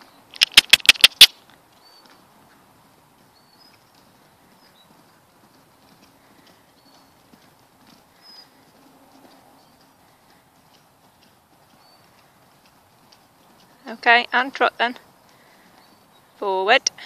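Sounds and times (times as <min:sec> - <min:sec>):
pony hoofbeats on sand: 0:01.8 - 0:16.6.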